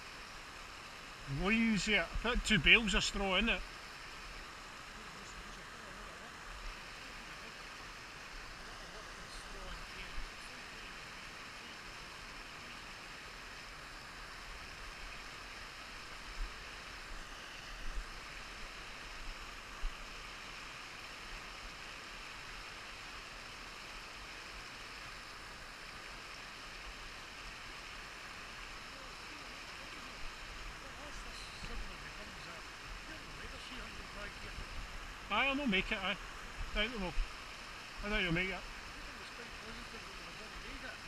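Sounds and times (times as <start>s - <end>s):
stream rushing: 0.0s - 41.0s.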